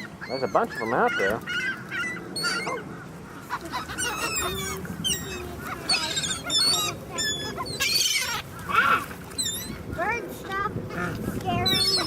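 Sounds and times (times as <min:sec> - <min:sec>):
birds squawking and honking: 0:00.0 - 0:12.0.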